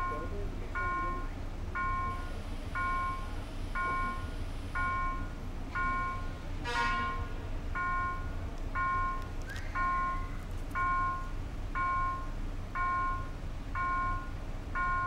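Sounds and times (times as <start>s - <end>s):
level crossing warning bell: 0.0s - 15.0s
street traffic rumbling: 0.0s - 15.0s.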